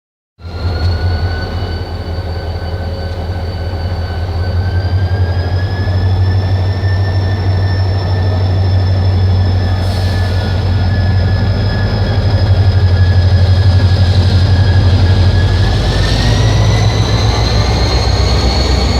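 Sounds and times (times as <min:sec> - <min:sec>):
high whine: 0:00.4 - 0:18.9
locomotive engine hum: 0:00.4 - 0:18.9.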